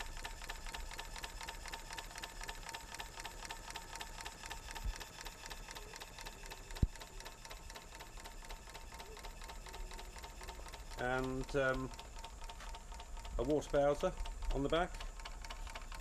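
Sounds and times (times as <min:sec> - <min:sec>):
model engine ticking: 0:00.0 - 0:16.0.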